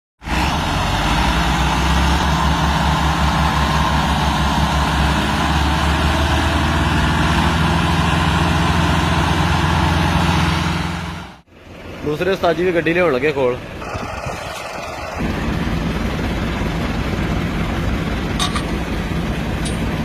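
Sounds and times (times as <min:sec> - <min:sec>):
tractor diesel engine running: 0:00.2 - 0:20.0.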